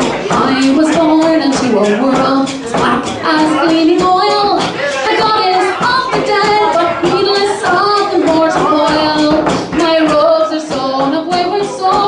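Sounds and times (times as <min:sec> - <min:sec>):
woman singing into a microphone: 0:00.3 - 0:12.0.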